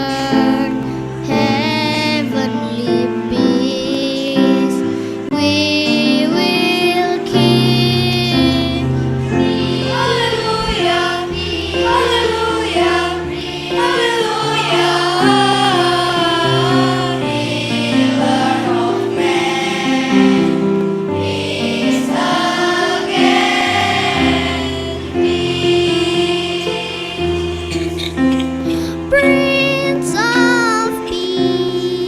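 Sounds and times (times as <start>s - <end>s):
children's choir singing: 0.0s - 32.0s
instrumental accompaniment: 0.0s - 32.0s.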